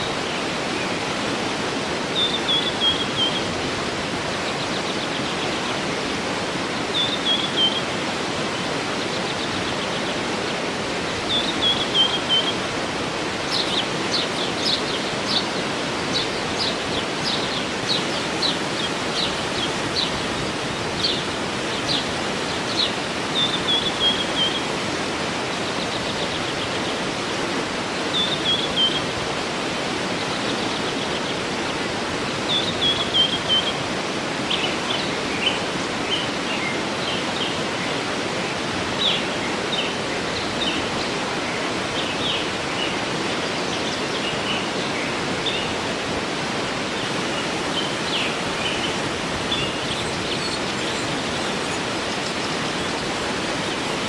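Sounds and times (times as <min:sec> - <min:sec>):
waterfall rushing: 0:00.0 - 0:54.0
birds singing: 0:01.9 - 0:33.9, 0:34.5 - 0:46.0, 0:46.9 - 0:54.0.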